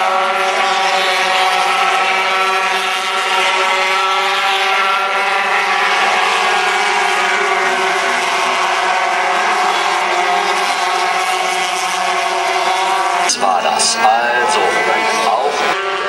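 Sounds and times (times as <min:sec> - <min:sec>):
motorcycle engines revving high: 0:00.0 - 0:16.0.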